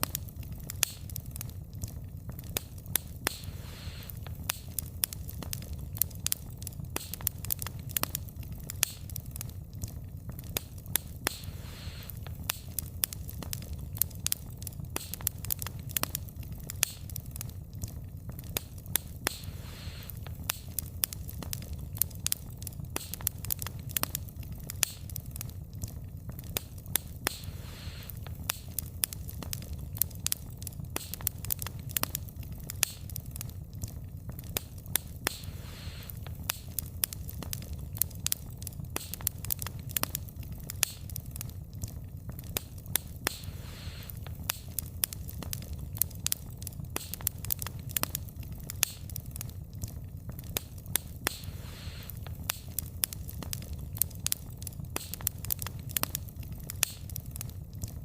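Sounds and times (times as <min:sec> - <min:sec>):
crackles and pops of burning logs: 0:00.0 - 0:58.0
low rumble of flames: 0:00.0 - 0:58.0.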